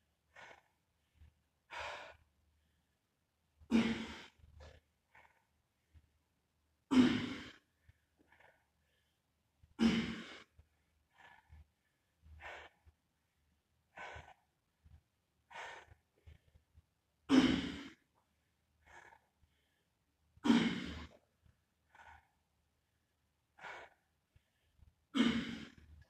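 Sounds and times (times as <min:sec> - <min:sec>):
man breathing hard: 0:00.3 - 0:03.0, 0:03.6 - 0:05.9, 0:06.9 - 0:16.6, 0:17.3 - 0:25.9.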